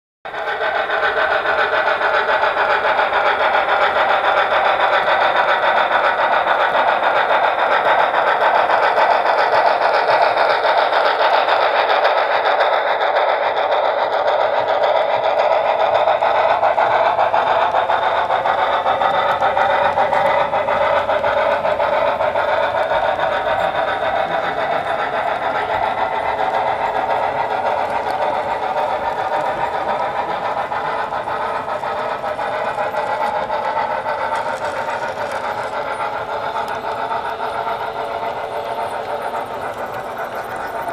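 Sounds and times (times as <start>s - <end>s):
model train motor whirring: 0.3s - 40.9s
wheels clicking over rails: 0.3s - 40.9s.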